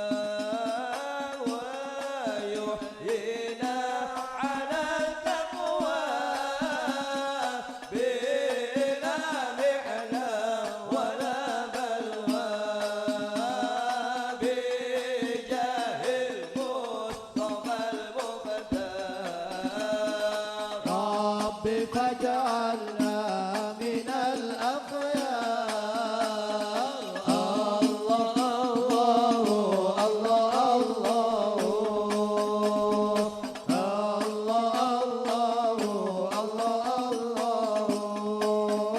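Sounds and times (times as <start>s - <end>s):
devotional chant singing: 0.0s - 38.9s
frame drums beating: 0.0s - 38.9s.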